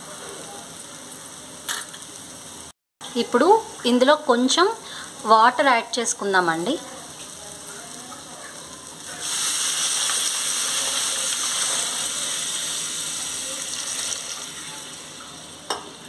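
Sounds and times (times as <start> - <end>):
water sizzling in hot oil: 0.0 - 16.0.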